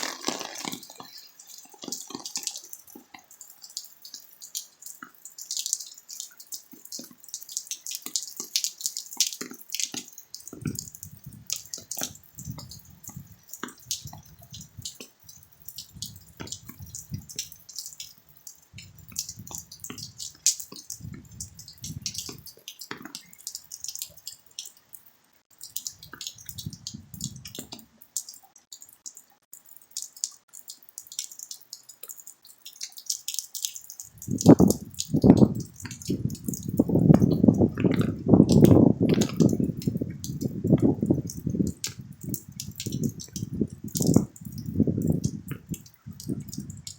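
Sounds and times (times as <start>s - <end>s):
rain dripping and pattering: 0.0s - 46.9s.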